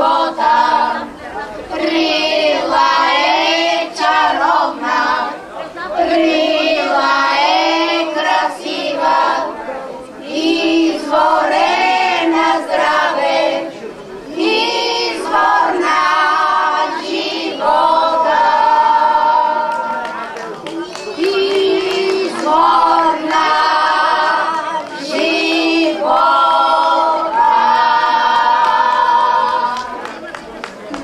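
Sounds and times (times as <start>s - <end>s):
women's choir singing: 0.0s - 30.3s.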